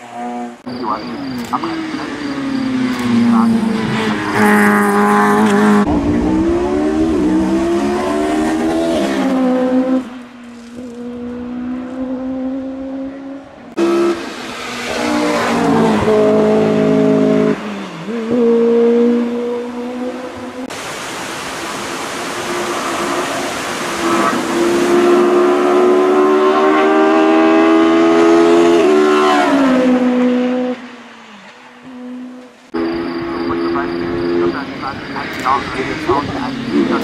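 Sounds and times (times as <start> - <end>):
race car engines revving: 0.0 - 20.8, 21.7 - 37.0.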